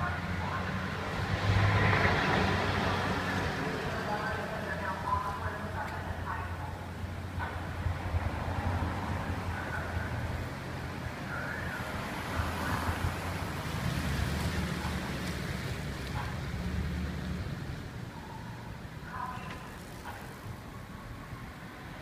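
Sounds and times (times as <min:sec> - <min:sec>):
rushing background noise: 0:00.0 - 0:22.0
truck engine rumble: 0:00.0 - 0:22.0.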